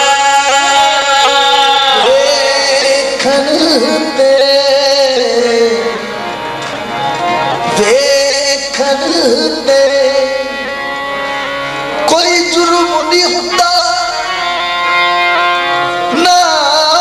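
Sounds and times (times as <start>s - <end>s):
man singing ornamented line: 0.0s - 6.2s, 7.7s - 11.0s, 12.1s - 17.0s
harmonium sustained notes: 0.0s - 17.0s.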